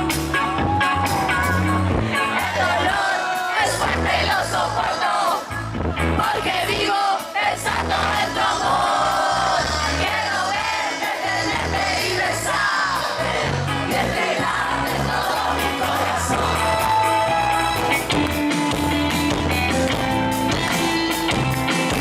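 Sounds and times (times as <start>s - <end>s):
pulsing bass line: 0.0s - 3.0s, 3.6s - 6.9s, 7.5s - 22.0s
band music with singing: 0.0s - 22.0s.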